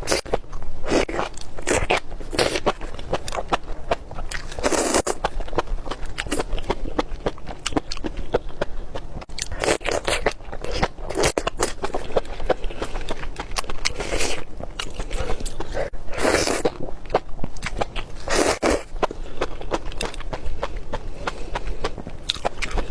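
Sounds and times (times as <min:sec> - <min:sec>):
food being chewed with crunches: 0:00.0 - 0:22.9.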